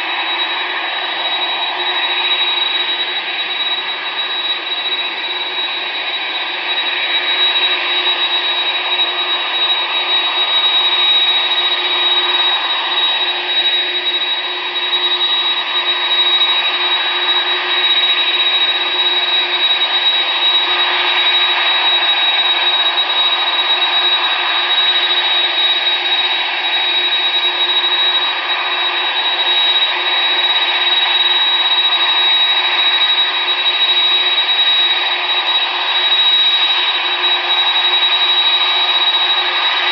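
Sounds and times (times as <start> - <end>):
high fan tone: 0.0 - 39.9
jet engines whining: 0.0 - 39.9.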